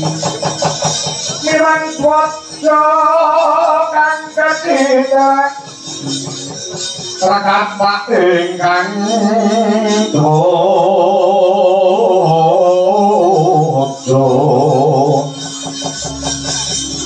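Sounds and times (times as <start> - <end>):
gamelan accompaniment: 0.0 - 17.0.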